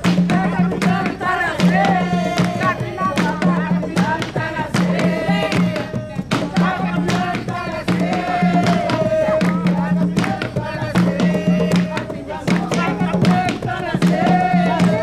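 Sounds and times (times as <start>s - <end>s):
hand drums beating: 0.0s - 15.0s
voices singing: 0.0s - 15.0s.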